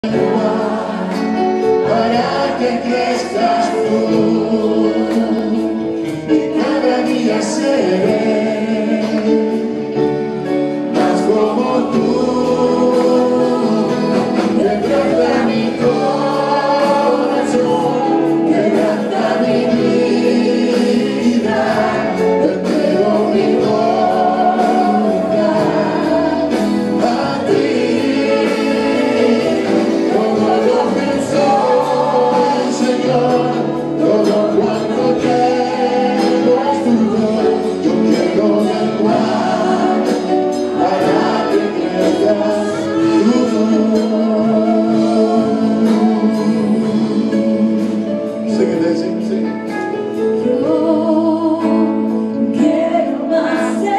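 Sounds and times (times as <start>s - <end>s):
keyboard: 0.0s - 53.9s
woman and man singing gospel: 0.0s - 53.9s.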